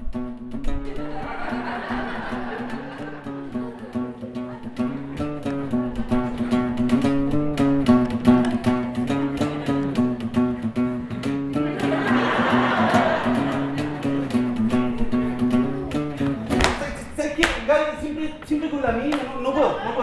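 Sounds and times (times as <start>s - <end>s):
strummed guitar music: 0.0s - 20.0s.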